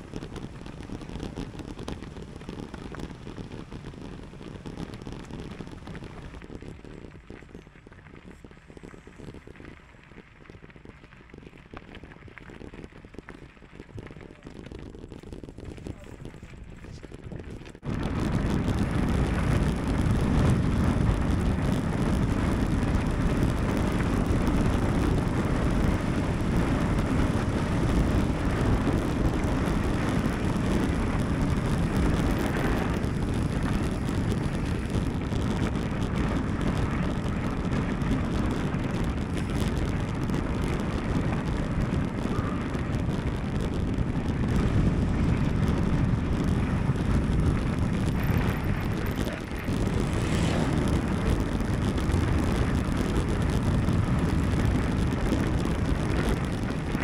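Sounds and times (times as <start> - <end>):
bike tyres rolling: 0.0 - 57.0
wind buffeting microphone: 0.0 - 57.0.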